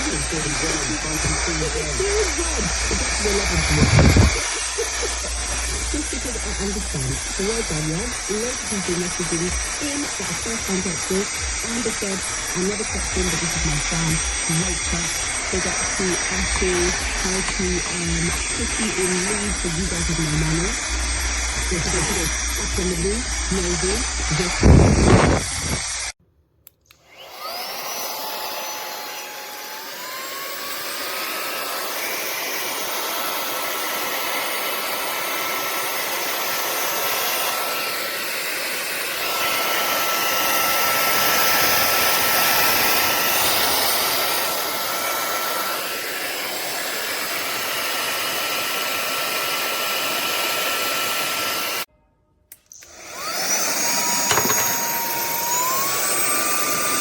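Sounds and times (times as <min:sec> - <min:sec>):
handheld vacuum cleaner whine: 0:00.0 - 0:26.2, 0:26.9 - 0:51.9, 0:52.5 - 0:57.0.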